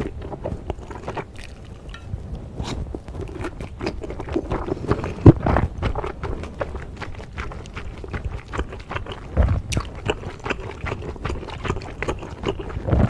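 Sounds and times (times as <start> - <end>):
noodle slurping: 0.0 - 2.0, 2.6 - 13.0
chewing with wet mouth smacks: 0.0 - 2.1, 2.7 - 13.0.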